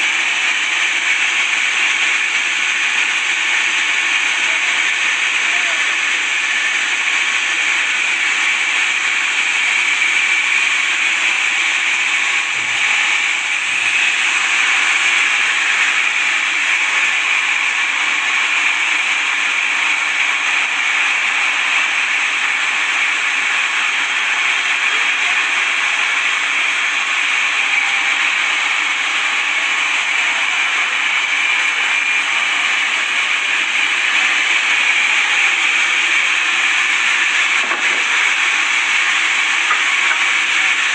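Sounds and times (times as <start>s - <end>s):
saw cutting through wood: 0.0s - 40.9s.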